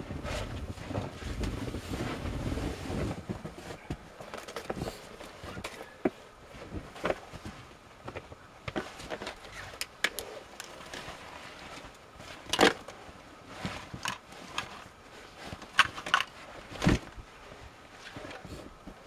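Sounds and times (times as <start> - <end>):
bags rustling and knocking: 0.0 - 19.0.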